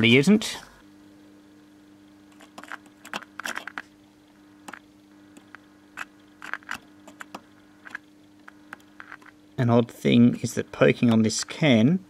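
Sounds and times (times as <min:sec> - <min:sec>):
radio speaker humming: 0:00.0 - 0:12.0.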